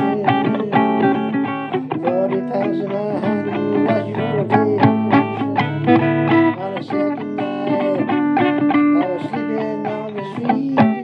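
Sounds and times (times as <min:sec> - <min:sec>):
blues guitar music: 0:00.0 - 0:11.0.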